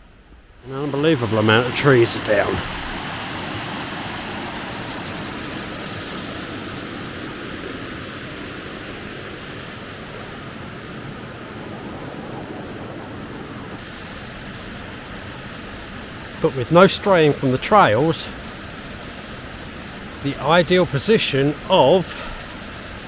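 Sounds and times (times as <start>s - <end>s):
waterfall and stream rushing: 0.6s - 23.0s.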